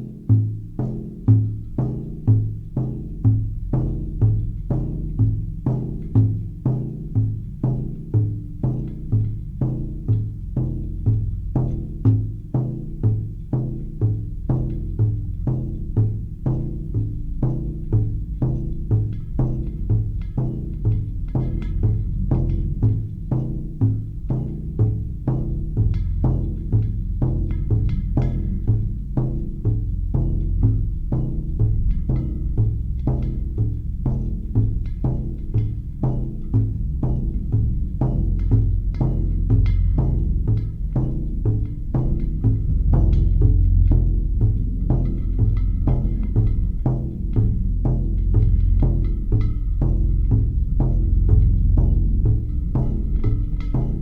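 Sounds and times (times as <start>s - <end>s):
continuous low drone: 0.0s - 54.0s
low drum beat: 0.0s - 54.0s.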